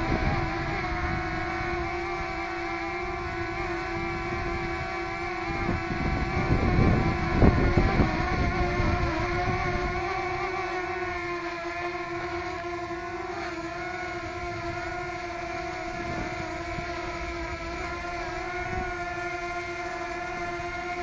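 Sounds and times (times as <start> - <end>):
drone propellers whining: 0.0 - 21.0
wind buffeting microphone: 0.0 - 21.0.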